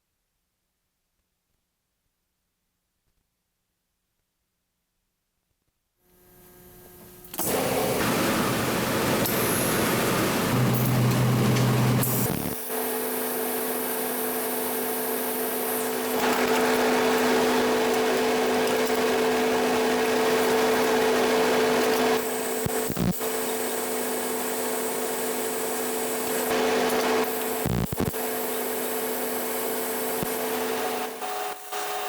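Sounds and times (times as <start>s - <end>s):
power tool motor humming: 6.1s - 32.0s.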